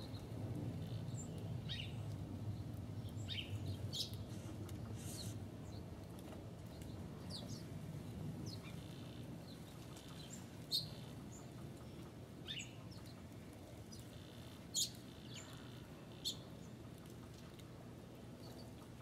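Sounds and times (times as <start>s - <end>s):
low steady background rumble: 0.0s - 19.0s
songbirds chirping: 0.0s - 19.0s.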